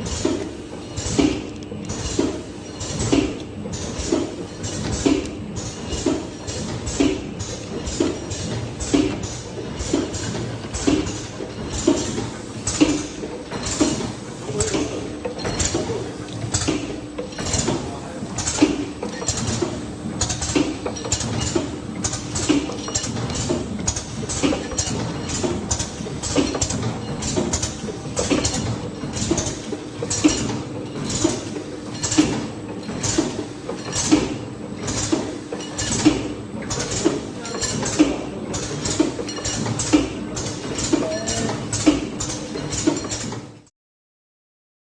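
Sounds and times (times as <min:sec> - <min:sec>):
packaging machine hum: 0:00.0 - 0:43.6
mechanical clacks: 0:00.0 - 0:43.7.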